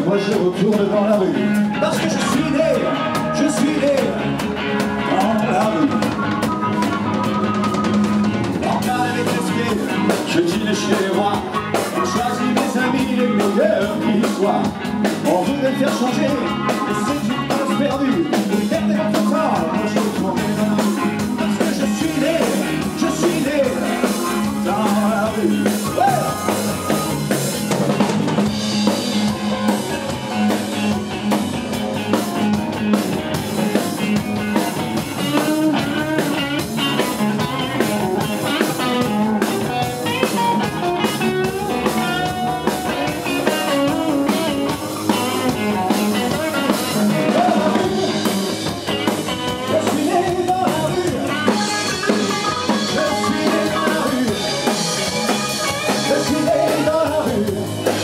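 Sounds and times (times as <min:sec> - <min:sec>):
drum kit beat: 0:00.0 - 0:58.0
live rock band: 0:00.0 - 0:58.0.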